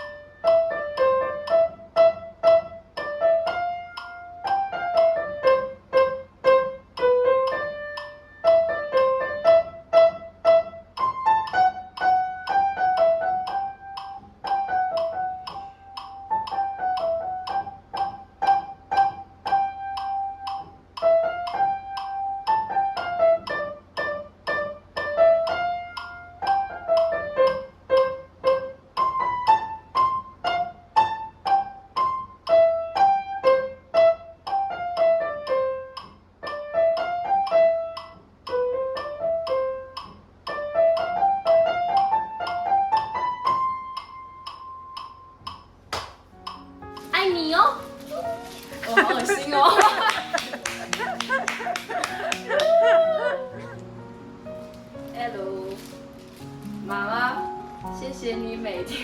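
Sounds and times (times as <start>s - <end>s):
slow gentle piano melody: 0.0s - 59.0s.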